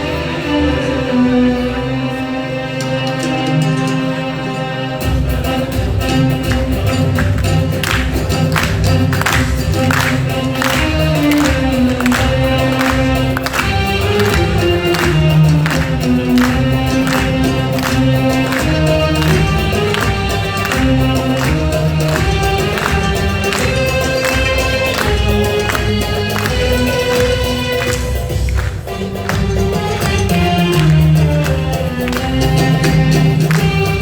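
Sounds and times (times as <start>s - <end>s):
instruments playing: 0.0s - 34.0s
steady percussion beat: 5.0s - 34.0s.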